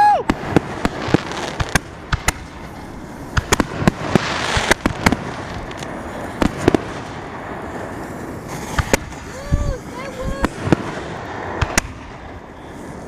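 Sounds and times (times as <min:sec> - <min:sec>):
crackling hiss: 0:00.0 - 0:13.0
firework shells bursting: 0:00.3 - 0:12.9.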